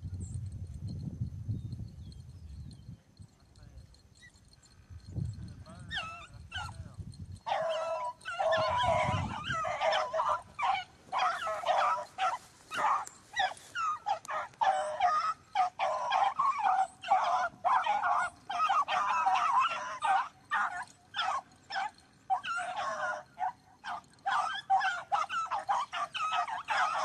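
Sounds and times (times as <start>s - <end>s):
hounds baying: 2.7s - 27.0s.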